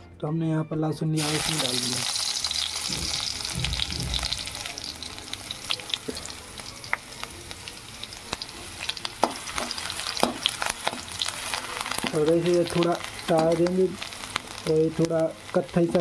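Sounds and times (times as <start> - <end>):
garlic sizzling in hot oil: 1.2 - 16.0.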